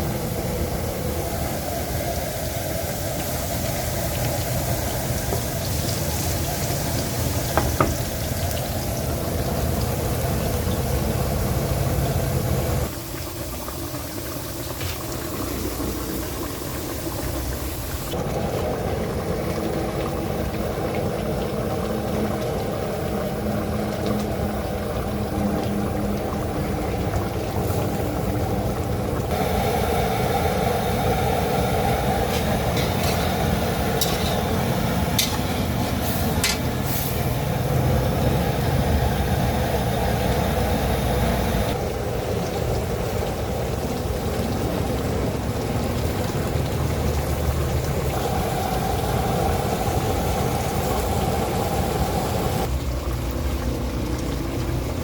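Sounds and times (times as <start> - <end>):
steady background hum: 0.0 - 53.2
liquid bubbling in a pan: 0.0 - 55.0.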